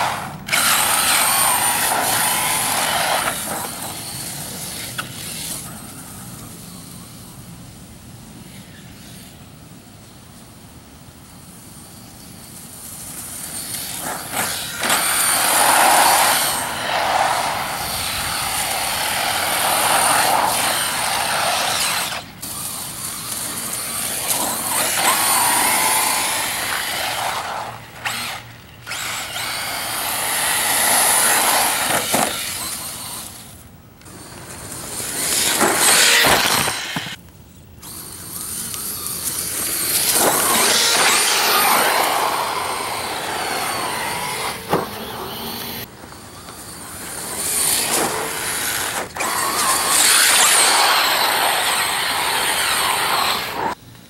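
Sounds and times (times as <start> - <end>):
tyres on dirt: 0.0 - 6.8, 12.4 - 54.0
toy truck motor whine: 0.0 - 7.1, 11.8 - 37.2, 37.8 - 53.8.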